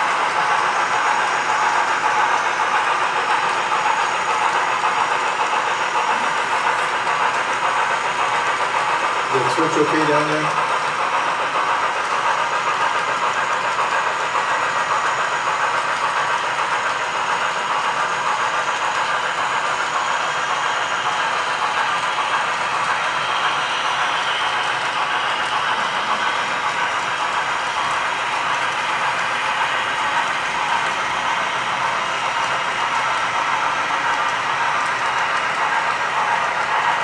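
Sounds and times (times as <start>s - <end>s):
model train wheels rattling: 0.0s - 37.0s.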